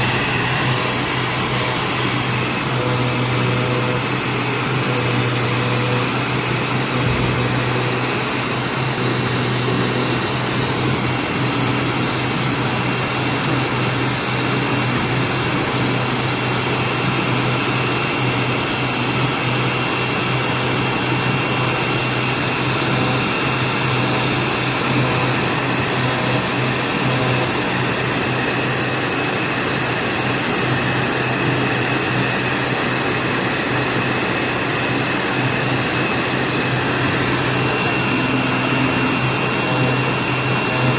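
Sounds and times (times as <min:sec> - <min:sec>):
router machine running: 0:00.0 - 0:40.9.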